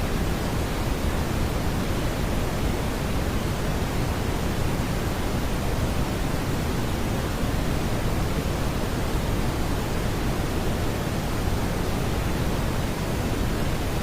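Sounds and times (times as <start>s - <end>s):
brown noise hiss: 0.0s - 14.0s.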